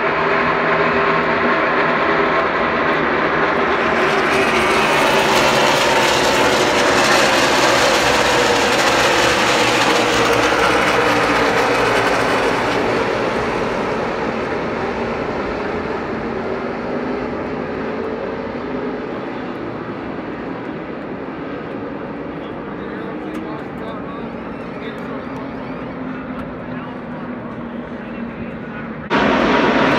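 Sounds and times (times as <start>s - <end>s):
racing cars passing at speed: 0.0s - 29.9s.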